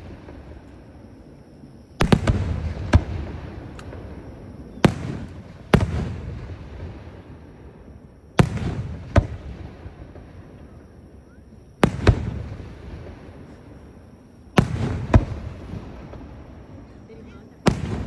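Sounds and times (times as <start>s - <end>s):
fireworks bangs: 0.0s - 1.0s, 2.0s - 18.0s.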